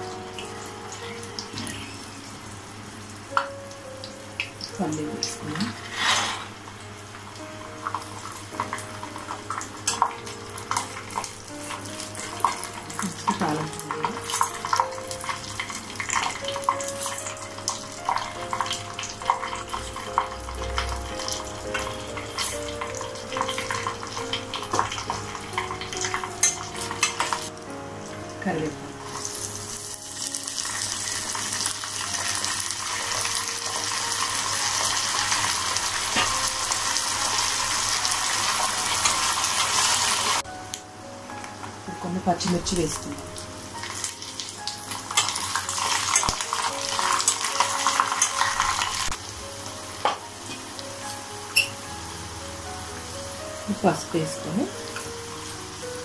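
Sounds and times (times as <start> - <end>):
hissing sizzle of oil: 0.0 - 56.0
seeds crackling in hot oil: 0.0 - 56.0.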